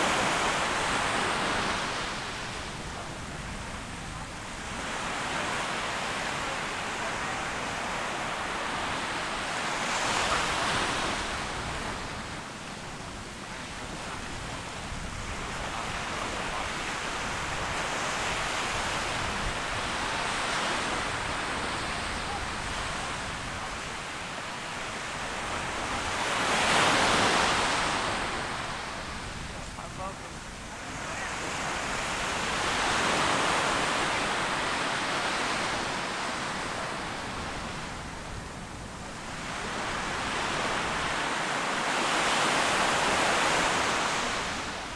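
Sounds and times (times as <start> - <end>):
waves washing up a beach: 0.0 - 44.9.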